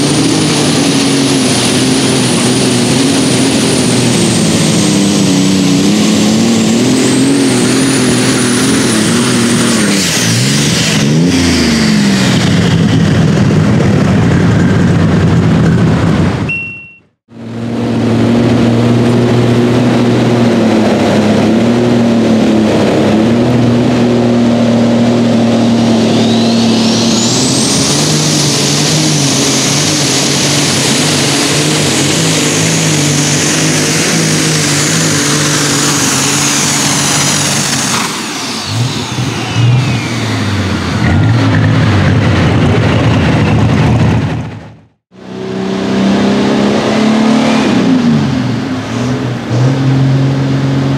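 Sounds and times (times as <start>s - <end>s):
high whistling turbo whine: 0.0s - 16.6s, 17.3s - 50.9s.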